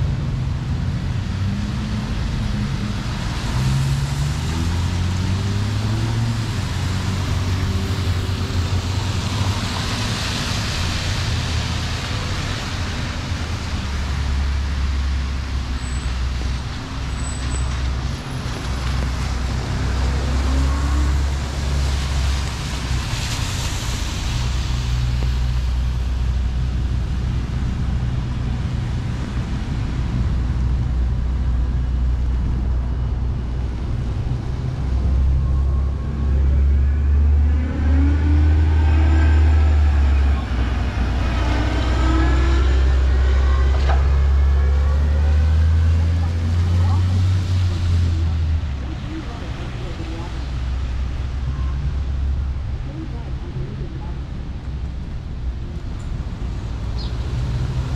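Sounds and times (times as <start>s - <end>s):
traffic engine drone: 0.0s - 57.9s
tyres hissing on wet road: 0.0s - 57.9s.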